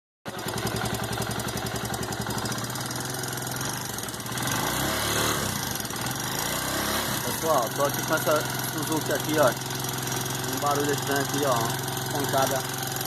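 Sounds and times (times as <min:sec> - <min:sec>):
engine knocking: 0:00.3 - 0:13.0
motorcycle engine idling: 0:00.3 - 0:13.0.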